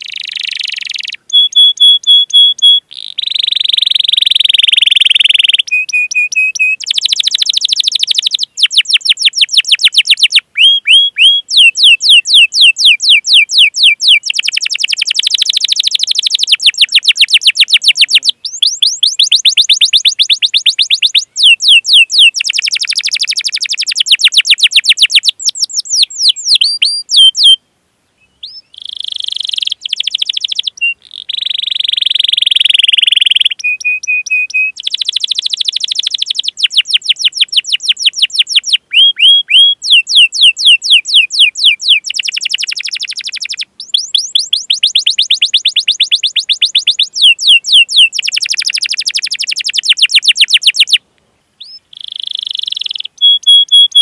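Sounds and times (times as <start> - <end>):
canary singing: 0.0 - 27.6, 28.2 - 51.0, 51.6 - 54.0.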